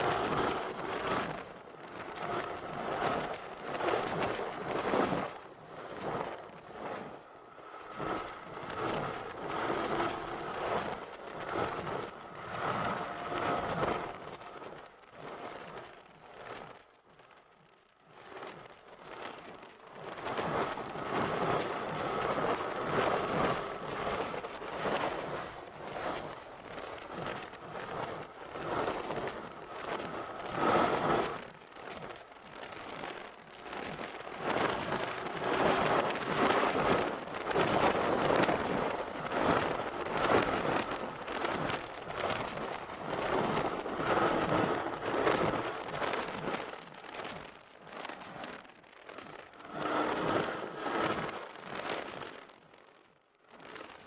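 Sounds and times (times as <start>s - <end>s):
wind buffeting microphone: 0.0s - 52.8s.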